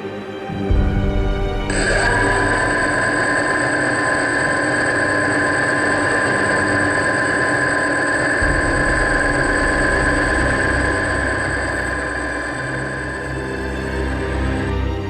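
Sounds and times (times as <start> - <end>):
low rumble: 0.7 - 15.0
drone motors whining: 1.5 - 15.0.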